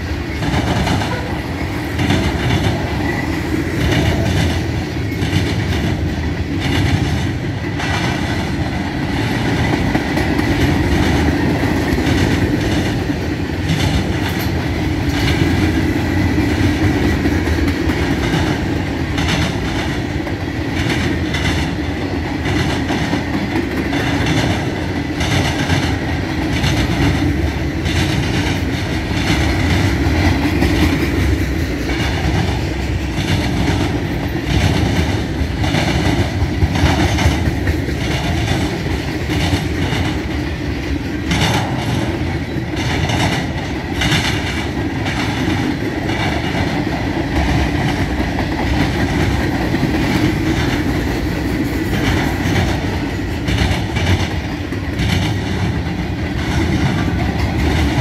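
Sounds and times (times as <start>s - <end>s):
train wheels rumbling on rail: 0.0s - 58.0s
wheels clicking over rail joints: 0.0s - 58.0s.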